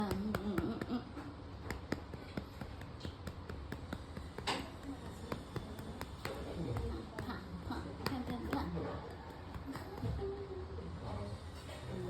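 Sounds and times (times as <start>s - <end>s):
hand slapping cat's rump: 0.0s - 10.4s.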